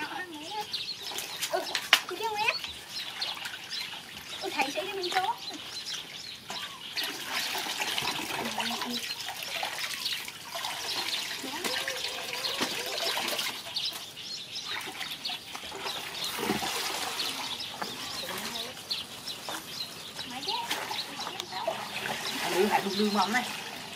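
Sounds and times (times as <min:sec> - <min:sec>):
water splashing and trickling: 0:00.0 - 0:23.9.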